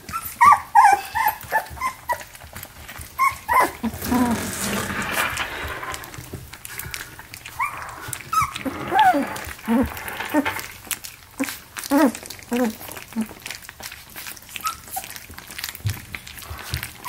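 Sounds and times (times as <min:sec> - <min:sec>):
puppies whining and squeaking: 0:00.0 - 0:04.4, 0:07.4 - 0:17.0.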